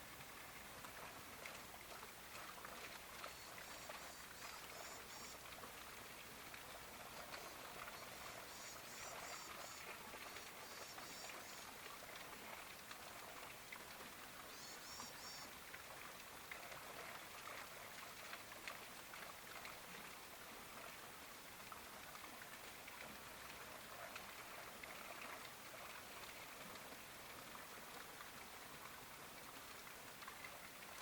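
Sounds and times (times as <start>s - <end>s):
light rain pattering: 0.0s - 31.0s.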